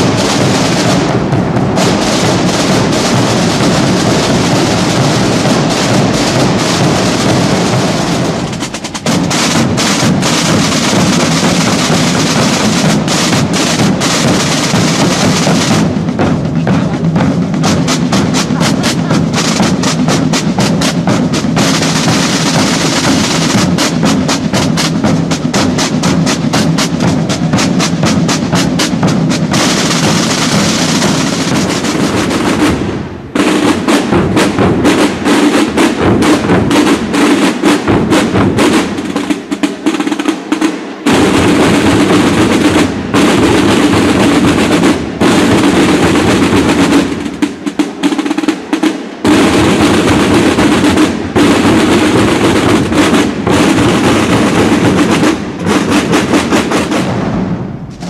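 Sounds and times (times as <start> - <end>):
snare drum band playing: 0.0 - 58.0.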